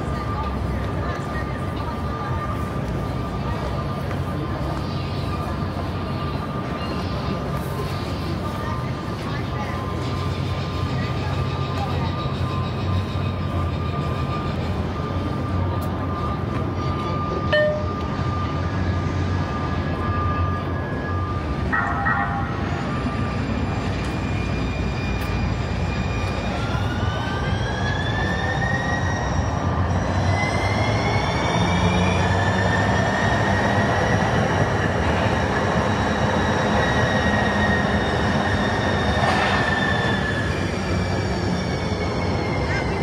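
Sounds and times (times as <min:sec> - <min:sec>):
wheels rumbling on rails: 0:00.0 - 0:43.0.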